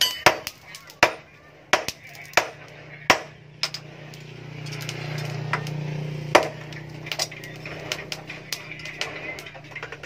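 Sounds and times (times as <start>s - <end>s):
hammer striking steel on anvil: 0.0s - 10.0s.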